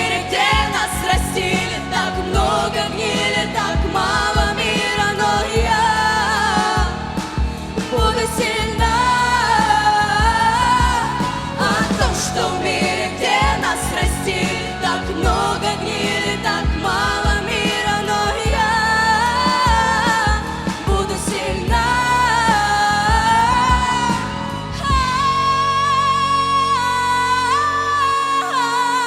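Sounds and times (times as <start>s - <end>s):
young voices singing: 0.0s - 25.2s
pop backing track: 0.0s - 29.0s.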